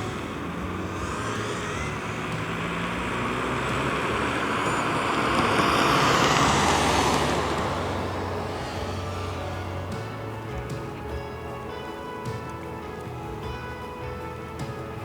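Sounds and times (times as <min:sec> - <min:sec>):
drone propellers whirring: 0:00.0 - 0:14.8.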